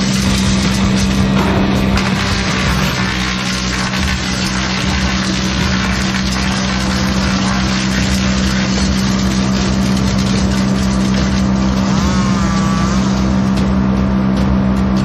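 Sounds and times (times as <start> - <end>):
branch shredder running: 0.0 - 15.0
constant low hum: 0.0 - 15.0.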